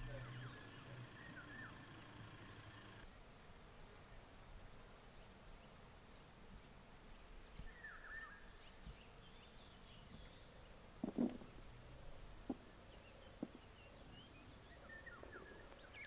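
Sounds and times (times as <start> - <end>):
soft bird chirps: 0.0 - 16.0.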